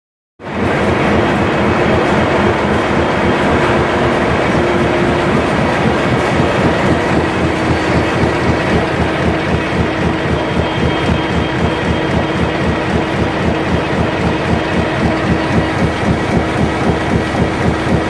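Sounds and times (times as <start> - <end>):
constant machine hum: 0.4 - 18.0
printing machine clatter: 0.4 - 18.0.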